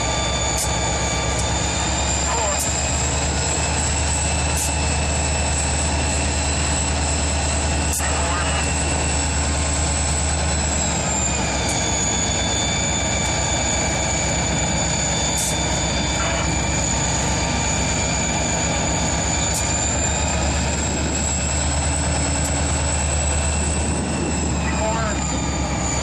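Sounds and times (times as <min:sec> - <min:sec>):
diesel locomotive rolling past: 0:00.0 - 0:26.0.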